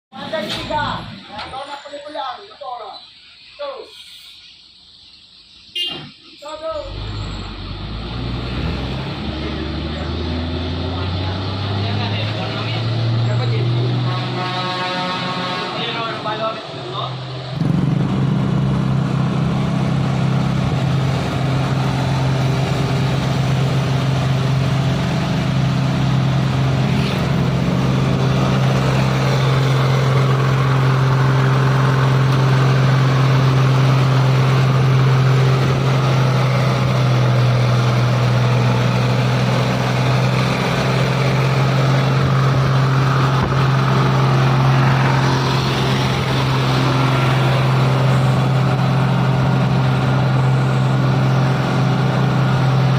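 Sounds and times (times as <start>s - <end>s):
diesel truck engine droning: 4.4s - 52.9s.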